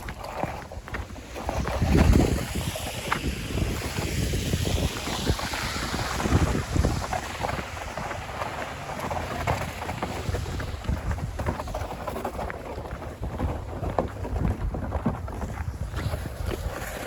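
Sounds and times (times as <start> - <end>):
footsteps crunching through snow: 0.0 - 17.0
sled scraping on snow: 0.0 - 17.0.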